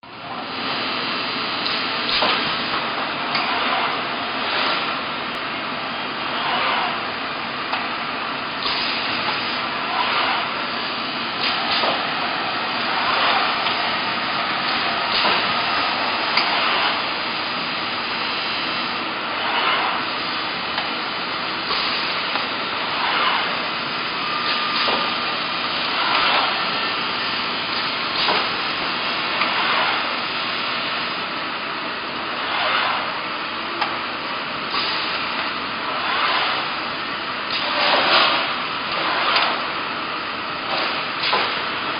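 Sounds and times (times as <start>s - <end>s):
welding press mechanical noise: 0.5s - 41.9s.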